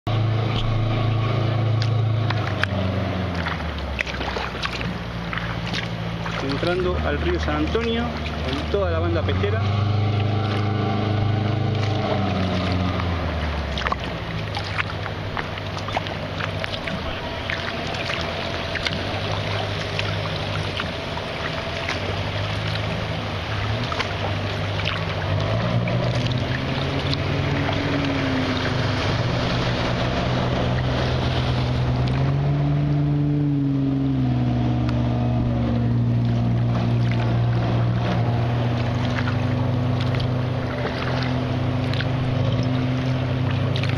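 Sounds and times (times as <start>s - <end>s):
motorboat engine running: 0.0s - 43.9s
paddles splashing in water: 0.1s - 43.9s.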